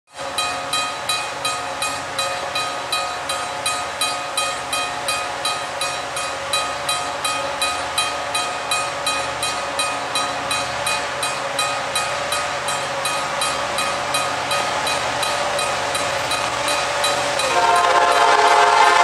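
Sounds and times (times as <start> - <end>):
railroad crossing bell ringing: 0.2 - 19.0.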